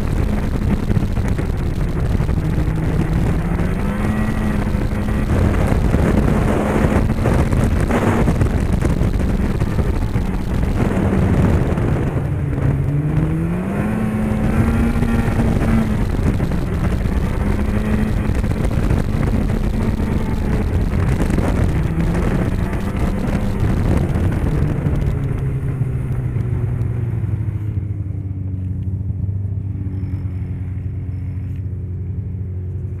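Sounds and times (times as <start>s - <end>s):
rushing ride noise: 0.0s - 26.7s
snowmobile engine revving: 0.0s - 26.8s.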